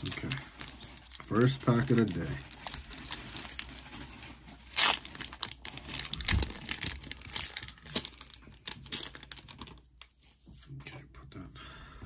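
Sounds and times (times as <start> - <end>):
foil wrapper ripping: 0.0 - 9.8
foil crinkling: 0.0 - 10.4.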